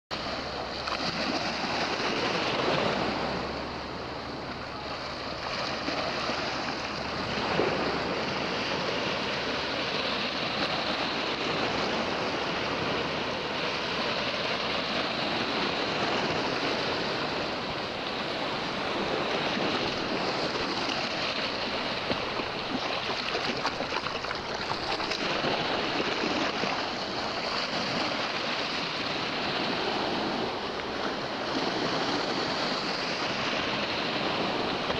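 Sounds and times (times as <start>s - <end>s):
waves washing over rocks: 0.2s - 34.9s.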